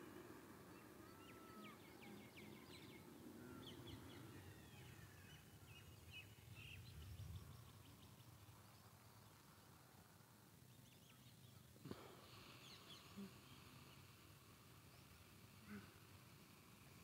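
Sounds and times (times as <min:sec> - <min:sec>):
birds chirping: 0:00.0 - 0:09.7, 0:10.6 - 0:17.0
low steady rumble: 0:00.0 - 0:17.0.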